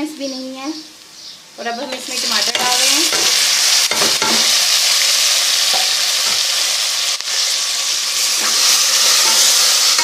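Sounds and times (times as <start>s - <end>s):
tomatoes sizzling in hot fat: 0.0s - 10.0s.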